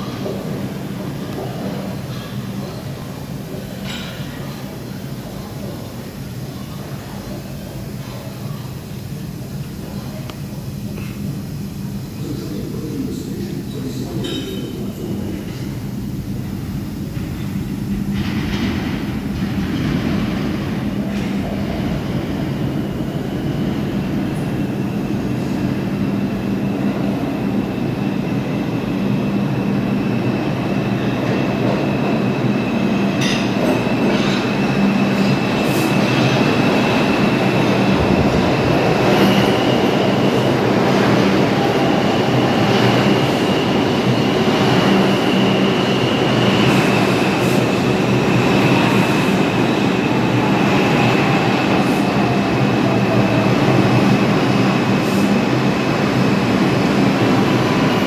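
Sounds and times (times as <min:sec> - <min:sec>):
subway train rumbling: 0:00.0 - 0:58.0.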